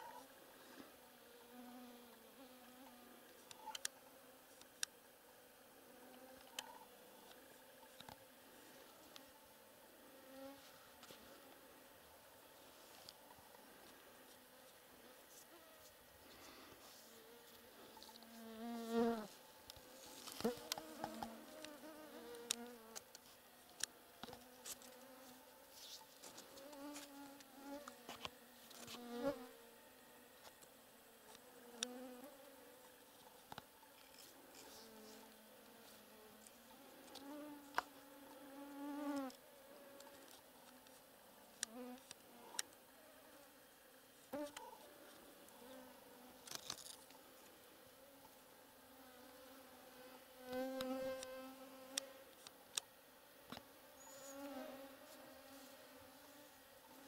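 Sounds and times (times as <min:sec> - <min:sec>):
flying insects buzzing past: 0:00.0 - 0:57.0.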